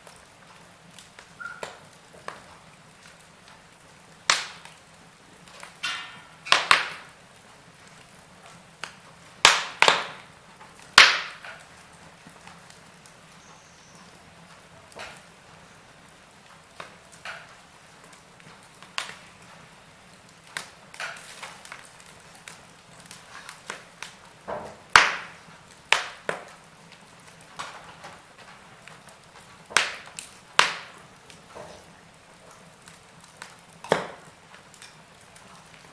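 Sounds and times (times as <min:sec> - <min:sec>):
faint steady hiss: 0:00.0 - 0:35.9
wood fire crackling: 0:00.0 - 0:35.9.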